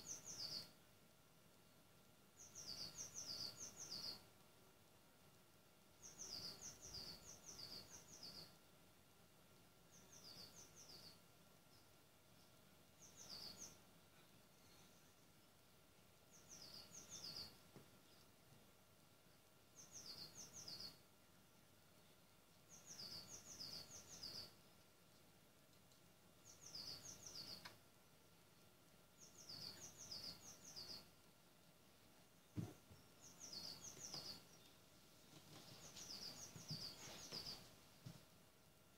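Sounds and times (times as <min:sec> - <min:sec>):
small songbird singing: 0:00.0 - 0:00.8, 0:02.2 - 0:04.4, 0:05.8 - 0:08.7, 0:09.6 - 0:18.5, 0:19.1 - 0:25.1, 0:26.3 - 0:37.8.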